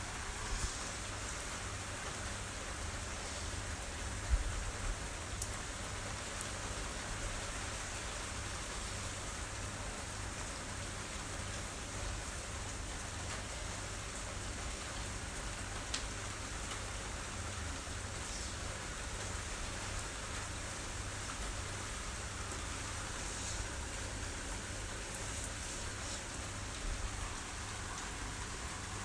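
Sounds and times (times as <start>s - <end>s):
heavy rain pouring: 0.0s - 29.0s
raindrops striking close by: 0.0s - 29.0s.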